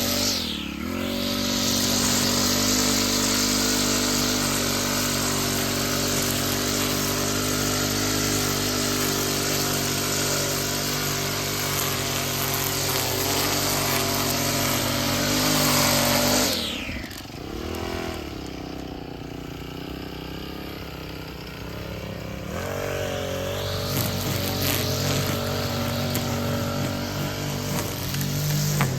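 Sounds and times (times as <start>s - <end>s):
small petrol engine revving: 0.0s - 28.9s.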